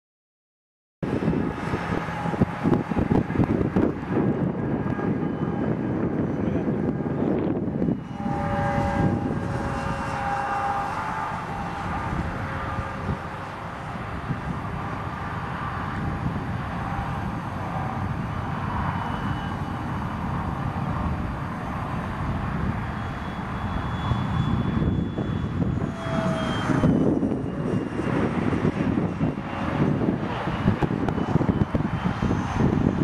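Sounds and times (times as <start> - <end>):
model jet fan whining: 1.1 - 33.0.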